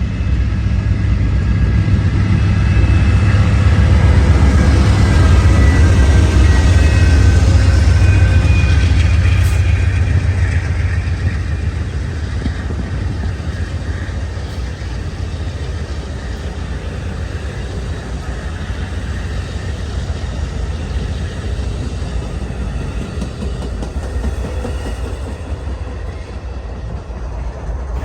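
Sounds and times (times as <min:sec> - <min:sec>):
locomotive rumble: 0:00.0 - 0:28.0
train rolling: 0:00.0 - 0:28.0.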